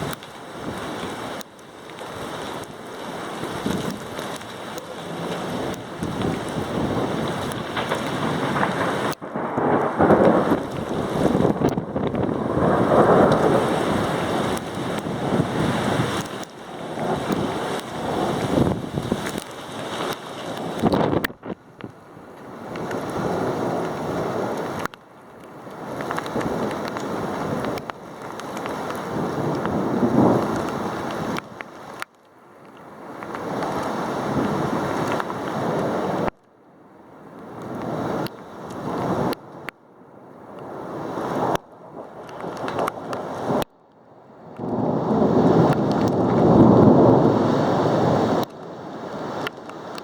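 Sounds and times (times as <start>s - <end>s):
gusting wind: 0.0s - 50.0s
heavy rain: 0.0s - 50.0s.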